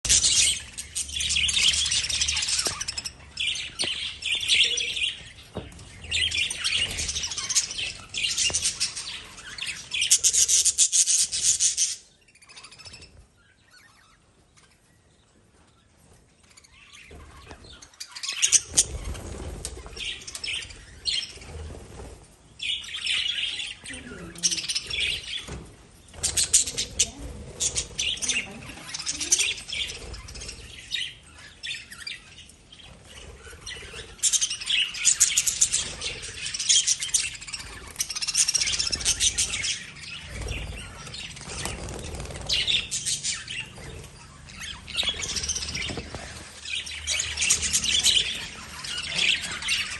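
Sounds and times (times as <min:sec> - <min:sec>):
lovebirds chirping: 0:00.0 - 0:49.9.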